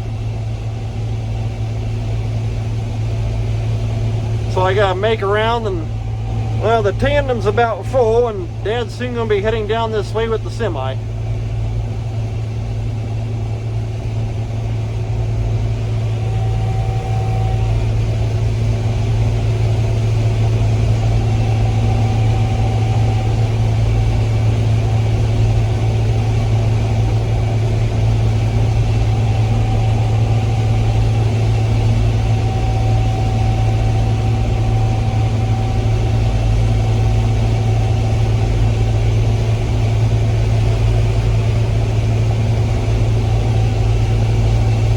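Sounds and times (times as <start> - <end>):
combine harvester engine drone: 0.0 - 44.9
faint machine whine: 0.0 - 44.9.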